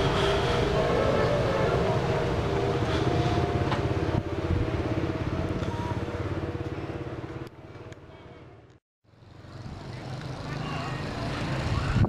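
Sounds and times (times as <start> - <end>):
vehicle engine pulsing: 0.0 - 12.0.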